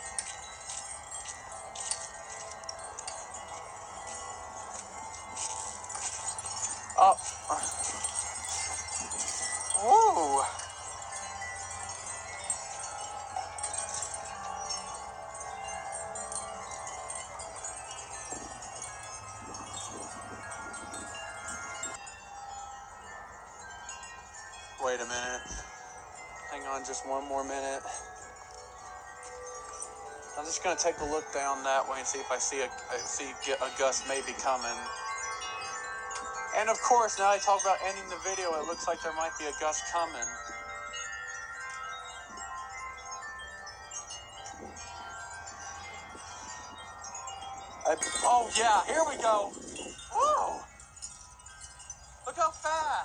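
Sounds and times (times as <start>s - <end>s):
wind chimes ringing: 0.0s - 53.0s.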